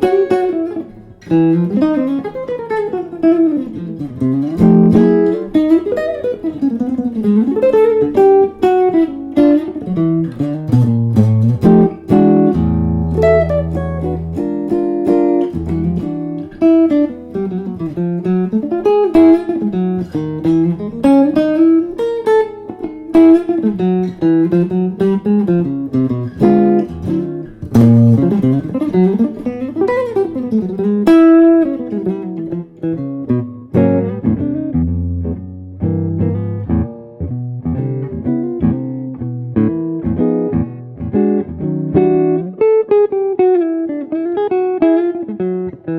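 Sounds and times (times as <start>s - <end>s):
solo jazz guitar: 0.0s - 45.9s.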